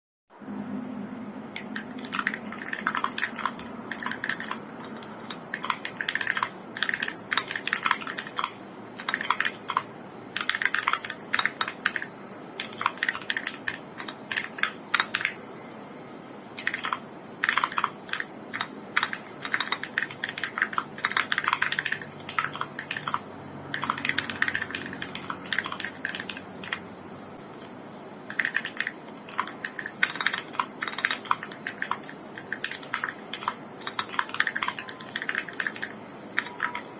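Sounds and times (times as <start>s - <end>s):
mechanical keyboard typing: 1.5s - 15.4s, 16.6s - 26.9s, 27.5s - 36.9s.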